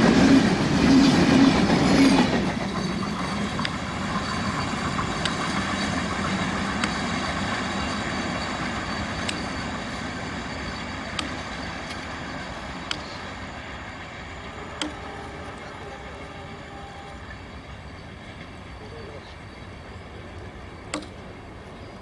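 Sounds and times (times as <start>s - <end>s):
train coaches rumbling on rails: 0.0s - 22.0s
sharp rail clicks: 1.6s - 18.7s, 20.3s - 21.8s.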